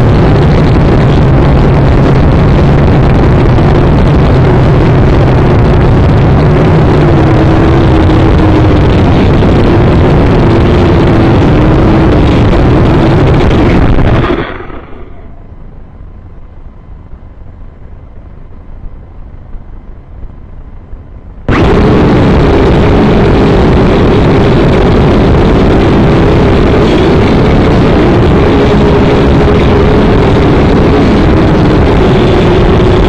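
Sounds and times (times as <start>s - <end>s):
drone propellers humming: 0.0s - 33.0s
low rumble: 0.0s - 33.0s.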